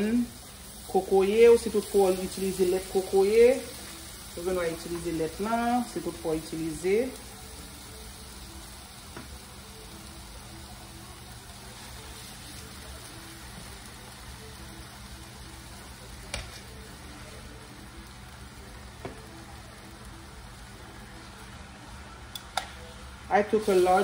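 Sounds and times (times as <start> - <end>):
sauce sizzling in skillet: 0.0 - 24.0.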